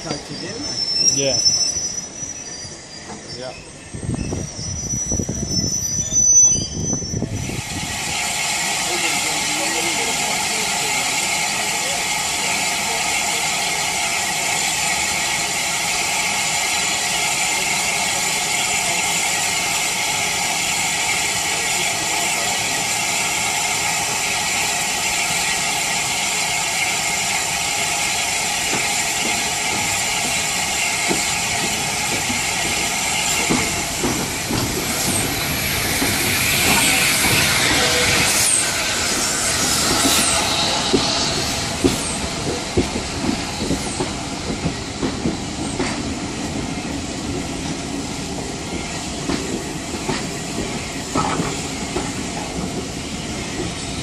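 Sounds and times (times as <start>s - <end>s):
steam locomotive hissing: 0.0s - 54.0s
train wheels squealing: 0.0s - 54.0s
train wheels clicking over rail joints: 8.0s - 54.0s.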